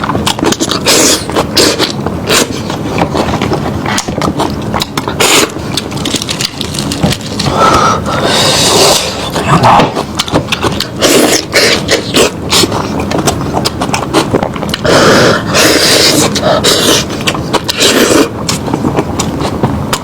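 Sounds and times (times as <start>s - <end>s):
wet chewing and sucking: 0.0s - 20.0s.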